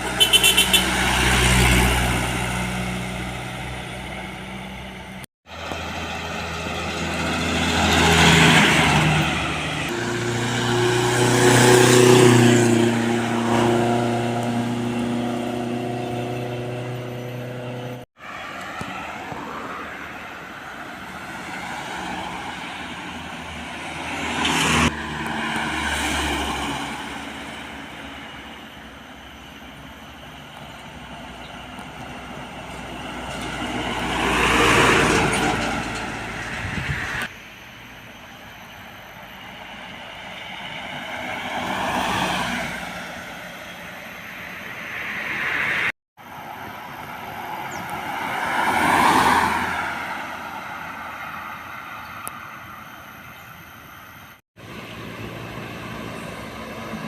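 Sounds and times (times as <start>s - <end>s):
heavy trucks passing: 0.0s - 57.0s.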